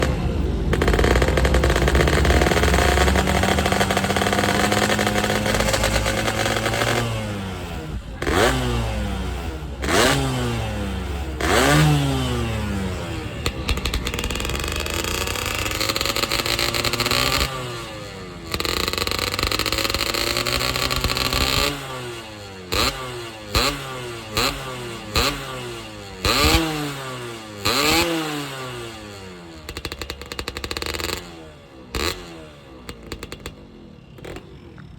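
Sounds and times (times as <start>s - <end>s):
two-stroke motorcycle engine revving: 0.0s - 34.9s.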